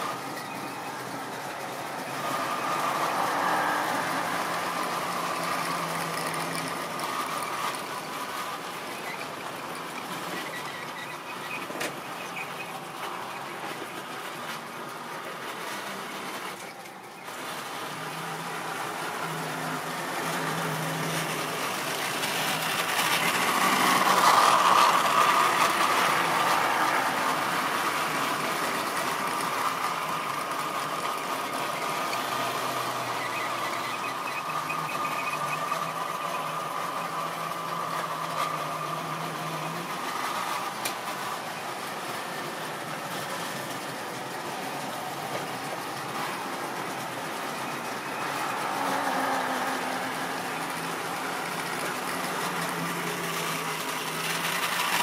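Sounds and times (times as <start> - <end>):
model train motor whining: 0.0 - 55.0
wheels running on rails: 0.0 - 55.0.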